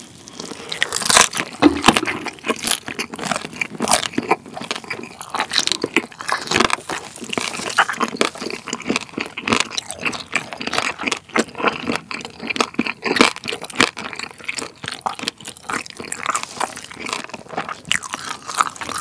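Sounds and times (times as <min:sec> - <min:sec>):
chewing crispy skin: 0:00.0 - 0:19.0.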